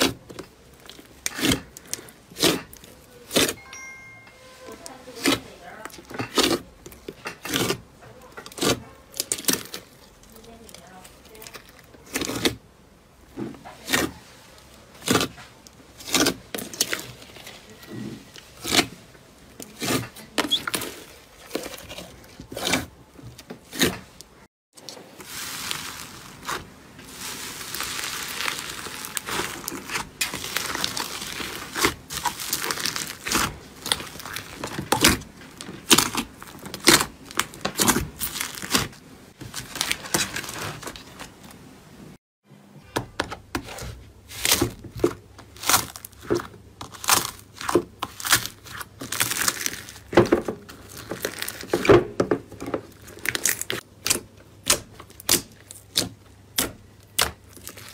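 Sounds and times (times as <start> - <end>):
crunchy slime crackling: 0.0 - 3.6, 4.7 - 12.7, 13.7 - 23.0, 24.8 - 41.4, 43.6 - 57.9.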